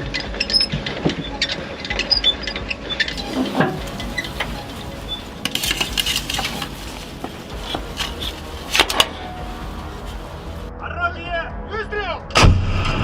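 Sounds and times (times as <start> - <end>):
metal clinking and clattering: 0.1 - 10.7.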